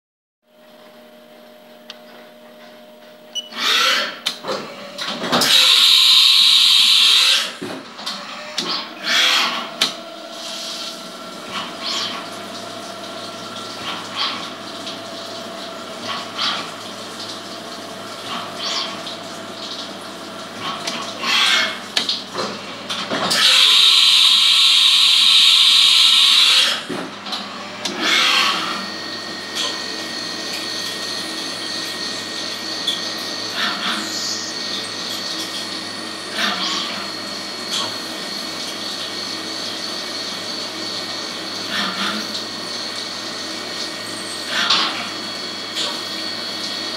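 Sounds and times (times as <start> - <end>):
milling machine running: 1.9 - 46.9.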